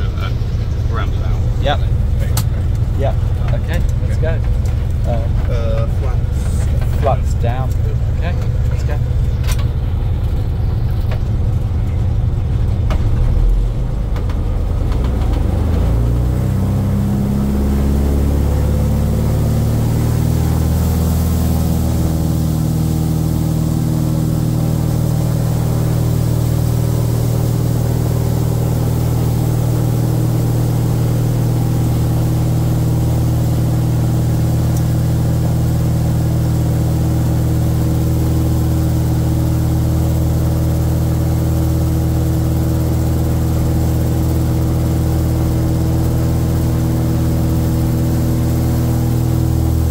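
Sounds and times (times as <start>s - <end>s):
propeller plane engine: 0.0s - 49.9s.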